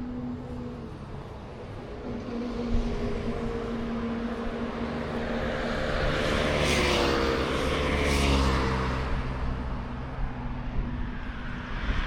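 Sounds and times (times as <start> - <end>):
engine humming passing by: 0.0 - 12.0.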